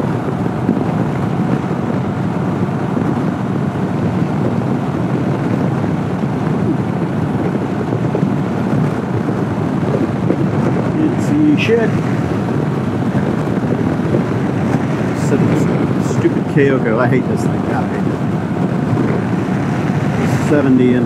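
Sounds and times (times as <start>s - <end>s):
motorcycle engine at speed: 0.0s - 21.0s
wind rushing on microphone: 0.0s - 21.0s.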